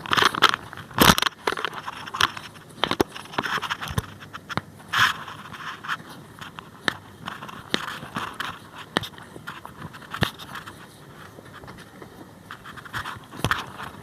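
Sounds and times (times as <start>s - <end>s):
rustling handling noise: 0.0s - 14.0s.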